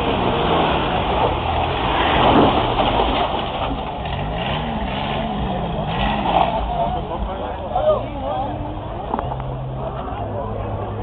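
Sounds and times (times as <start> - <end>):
truck engine revving: 0.0 - 9.7
rough steady rushing noise: 0.0 - 11.0.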